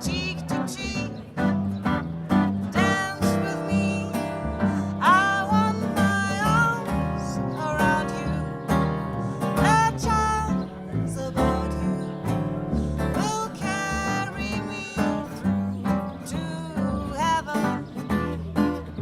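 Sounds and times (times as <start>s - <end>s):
acoustic guitar strumming: 0.0s - 19.0s
bass line: 0.0s - 19.0s.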